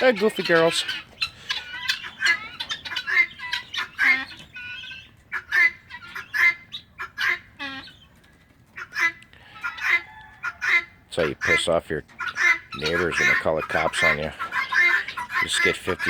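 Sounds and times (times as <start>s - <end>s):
guinea fowl calling: 0.0s - 16.0s.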